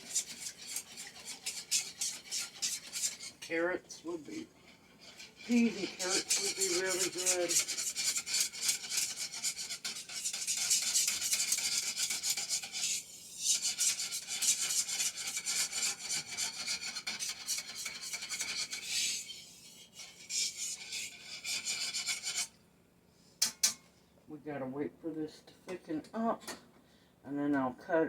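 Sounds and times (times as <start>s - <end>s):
utensil scraping a wok: 0.0s - 22.6s, 23.4s - 23.9s.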